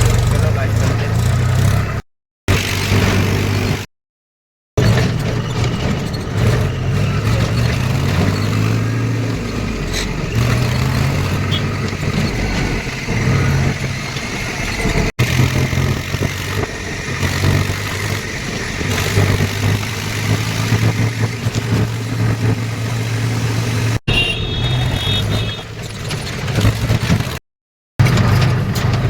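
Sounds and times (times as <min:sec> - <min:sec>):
tractor engine running: 0:00.0 - 0:03.9, 0:04.8 - 0:27.4, 0:28.0 - 0:29.0.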